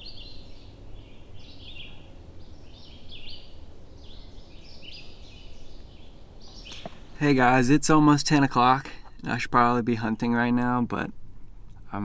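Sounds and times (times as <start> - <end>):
songbird chirping: 0.0 - 11.3
low outdoor rumble: 0.0 - 12.0.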